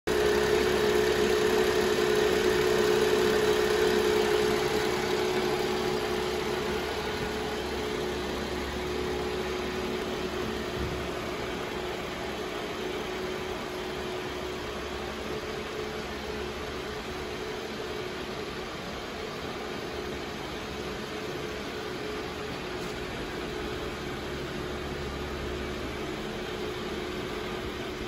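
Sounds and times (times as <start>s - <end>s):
car engine idling: 0.1s - 28.0s.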